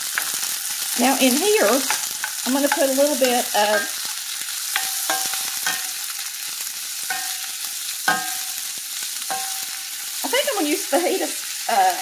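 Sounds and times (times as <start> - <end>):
spoon knocking and scraping pan: 0.0 - 10.5
vegetables sizzling in a skillet: 0.0 - 12.0.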